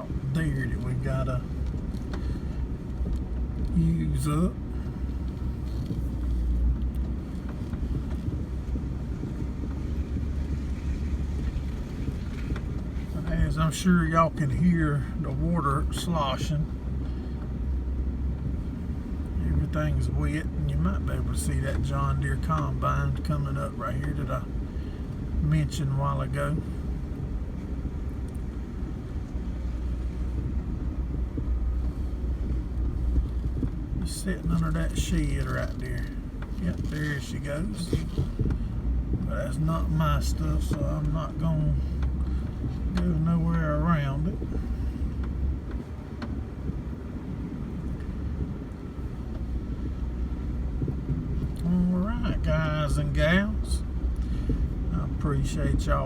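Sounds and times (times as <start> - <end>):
vehicle engine and tyres rumbling: 0.0 - 56.0.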